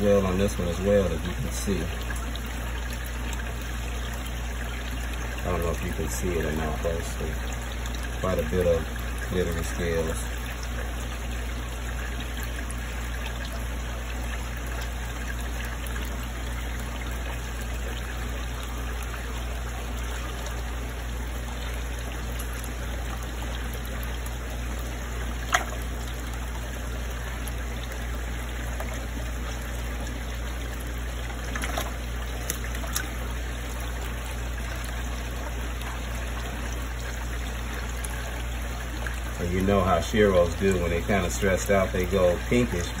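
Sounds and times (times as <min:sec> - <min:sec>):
water trickling in a fish tank: 0:00.0 - 0:43.0.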